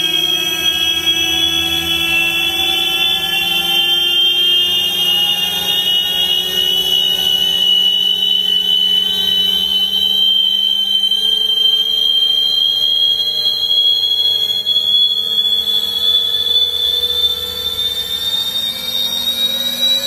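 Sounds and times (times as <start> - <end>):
electric motorcycle whine: 0.0 - 20.0.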